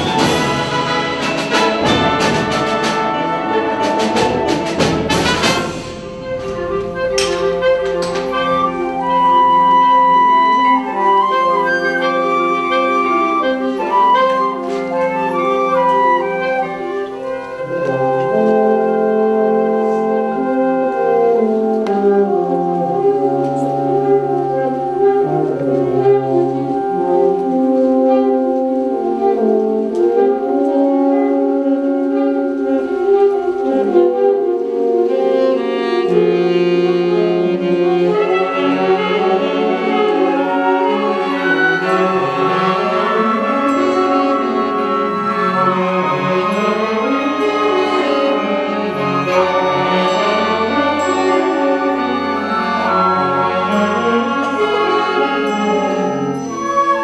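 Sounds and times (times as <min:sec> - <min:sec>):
wind band playing sustained chords: 0:00.0 - 0:57.0.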